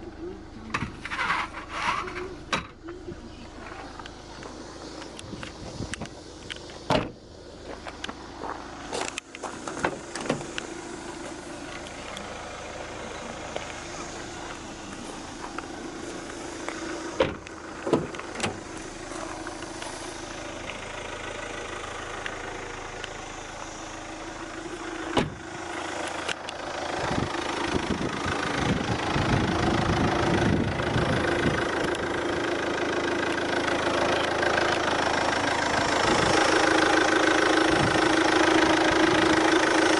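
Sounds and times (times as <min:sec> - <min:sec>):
car engine starting and idling: 0:00.0 - 0:39.9.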